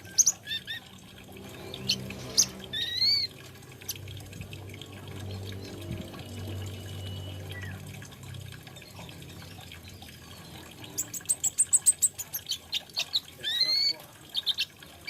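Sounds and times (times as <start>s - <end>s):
faint water trickle: 0.0s - 15.0s.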